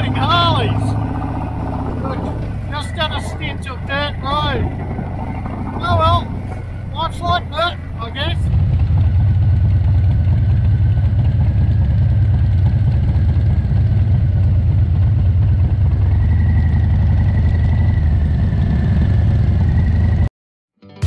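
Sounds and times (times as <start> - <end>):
motorcycle engines rumbling: 0.0 - 20.3
road noise: 0.0 - 20.3.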